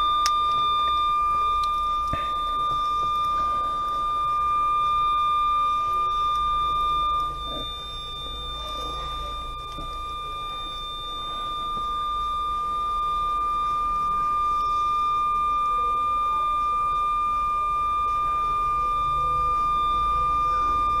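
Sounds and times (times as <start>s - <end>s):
continuous high electronic beep: 0.0s - 21.0s
low background rumble: 0.0s - 21.0s.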